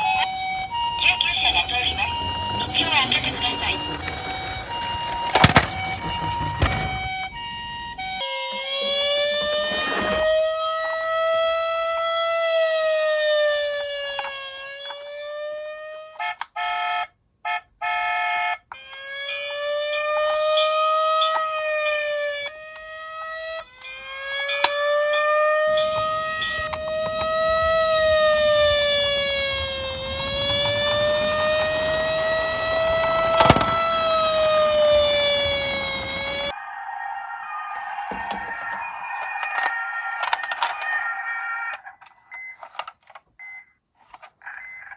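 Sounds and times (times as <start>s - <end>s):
toy electronic siren wailing: 0.0s - 43.0s, 44.2s - 44.9s.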